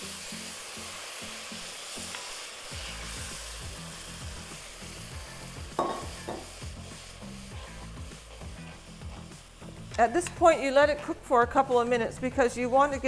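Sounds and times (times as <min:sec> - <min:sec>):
paste sizzling in a wok: 0:00.0 - 0:13.0.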